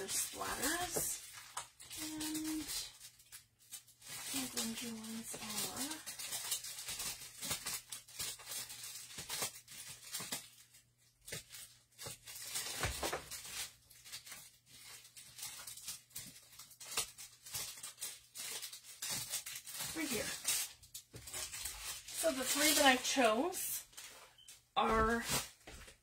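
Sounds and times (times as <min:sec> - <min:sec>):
rustling of packaged stamps: 0:00.0 - 0:26.0.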